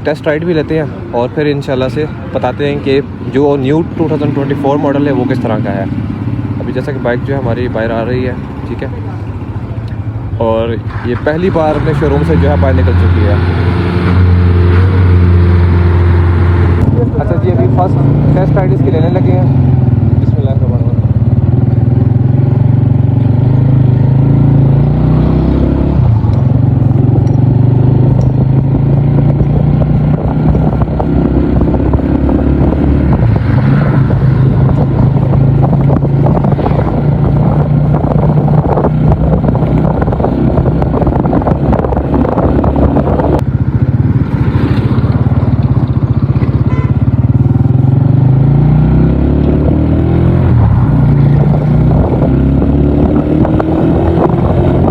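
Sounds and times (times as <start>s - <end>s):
motorcycle engine running: 3.4s - 54.9s.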